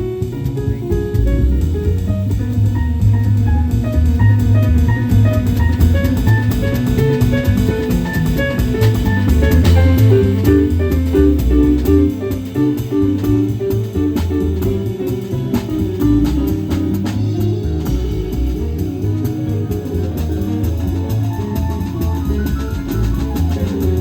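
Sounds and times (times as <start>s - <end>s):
bass line: 0.0s - 24.0s
drum kit with cymbals: 0.0s - 24.0s
plucked melodic notes: 0.0s - 24.0s.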